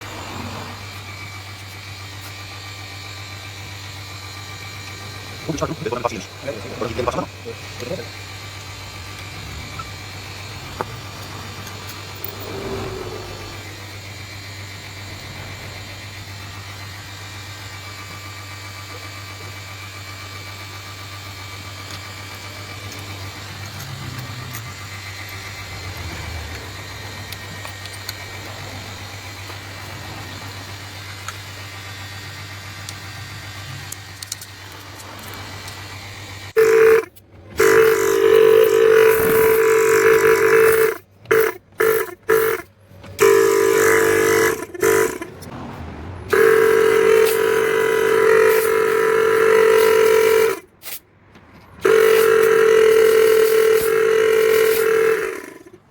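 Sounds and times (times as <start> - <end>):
loud pitched buzz: 0.0 - 50.8, 51.8 - 55.8
refrigerator compressor hum: 0.0 - 55.9.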